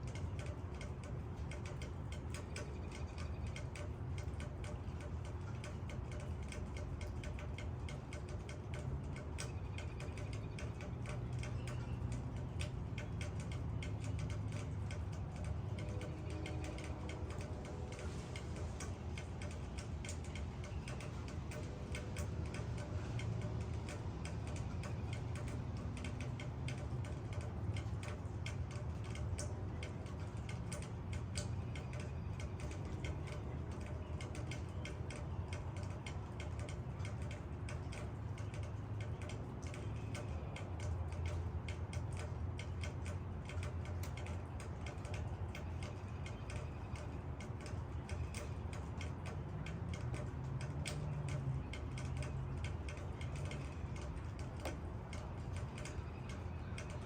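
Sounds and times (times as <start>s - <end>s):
rain dripping on leaves: 0.0s - 57.0s.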